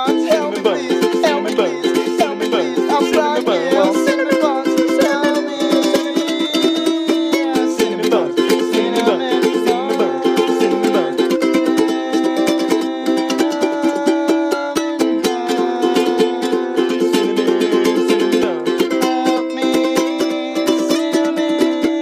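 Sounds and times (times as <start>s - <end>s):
ukulele strumming: 0.0s - 22.0s.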